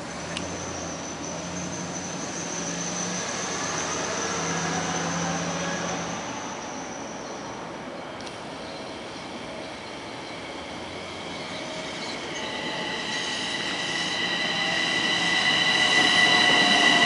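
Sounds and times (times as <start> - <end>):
electric train rolling: 0.0 - 17.0.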